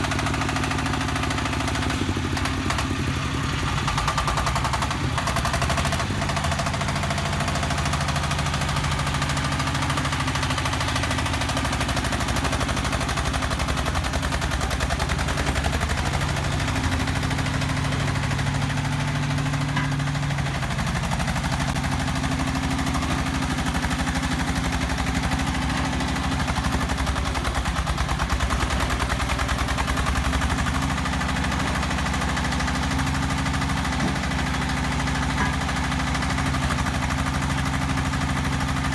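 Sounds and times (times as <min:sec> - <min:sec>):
truck engine pulsing: 0:00.0 - 0:38.9.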